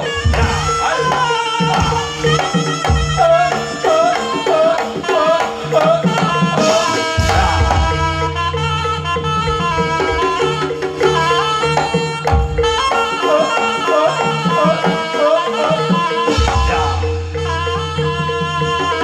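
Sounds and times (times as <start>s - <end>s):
kendang hand drums: 0.0s - 19.0s
steady held tone: 0.0s - 19.0s
wavering melody line: 0.0s - 19.0s.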